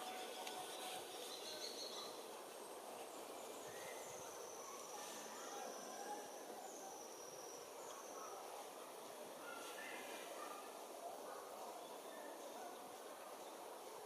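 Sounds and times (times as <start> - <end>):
steady outdoor hum: 0.0 - 14.0.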